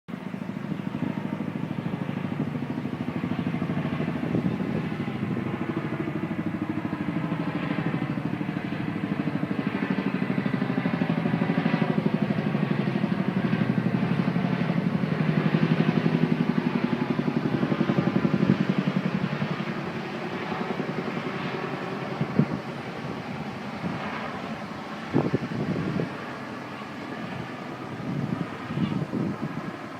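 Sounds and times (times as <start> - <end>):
helicopter rotor blades thudding: 0.1 - 29.9.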